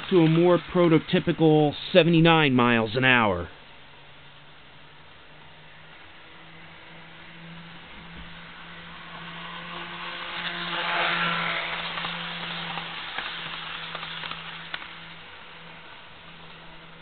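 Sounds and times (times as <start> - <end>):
model train passing: 0.0 - 17.0
steady low hum: 0.0 - 17.0.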